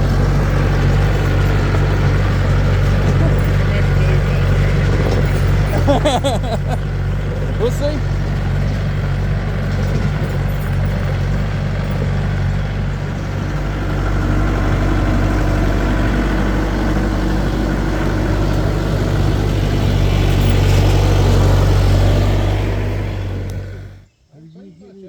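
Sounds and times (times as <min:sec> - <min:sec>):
skid steer engine idling: 0:00.0 - 0:24.1.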